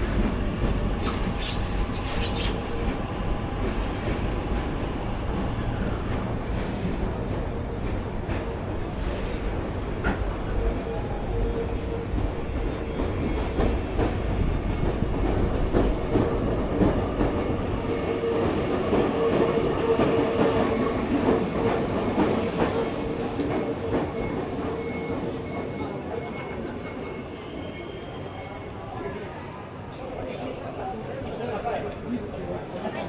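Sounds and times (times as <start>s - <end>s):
train passing: 0.0s - 27.6s.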